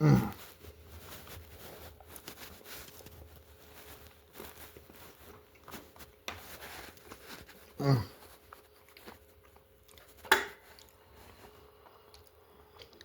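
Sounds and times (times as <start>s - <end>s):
faint chewing: 0.2s - 13.0s.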